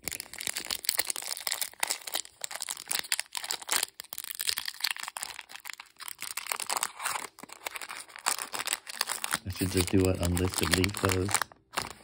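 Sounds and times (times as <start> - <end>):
foil pack tearing open: 0.0 - 12.0
foil wrapper crinkling: 0.0 - 12.0.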